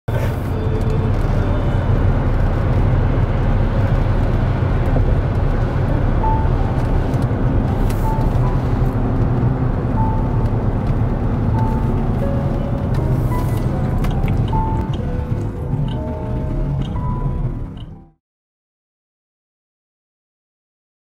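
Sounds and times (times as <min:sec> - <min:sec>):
road and engine rumble in car: 0:00.1 - 0:18.2.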